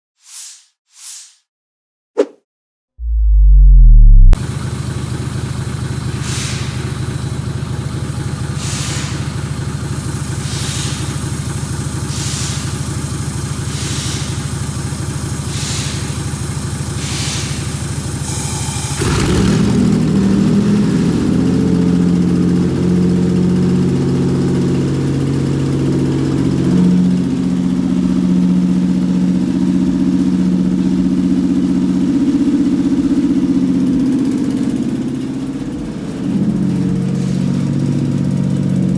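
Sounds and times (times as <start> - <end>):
engine idling: 3.0 - 38.9.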